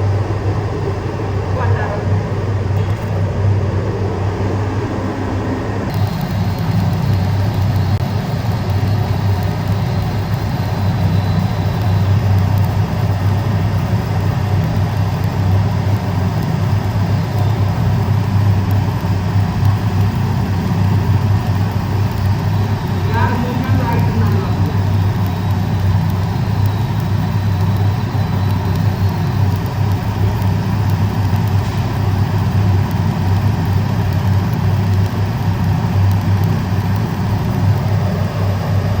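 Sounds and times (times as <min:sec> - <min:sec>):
faint high whine: 0:00.0 - 0:39.0
low electrical hum of machinery: 0:00.0 - 0:39.0.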